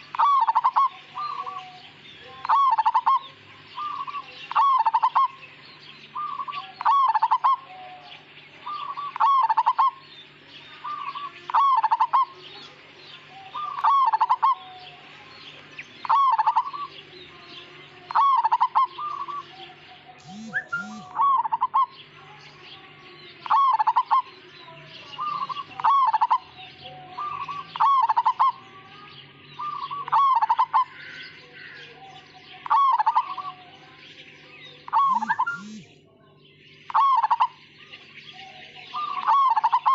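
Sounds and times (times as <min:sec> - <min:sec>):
dove cooing: 0:00.0 - 0:10.1, 0:10.8 - 0:15.1, 0:16.0 - 0:22.1, 0:23.4 - 0:28.8, 0:29.5 - 0:33.7, 0:34.8 - 0:35.9, 0:36.9 - 0:37.6, 0:38.3 - 0:39.9
small birds chirping: 0:00.0 - 0:39.9.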